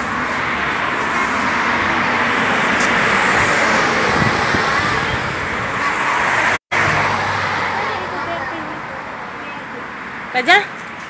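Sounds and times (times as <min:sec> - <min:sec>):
cars passing on road: 0:00.0 - 0:11.0.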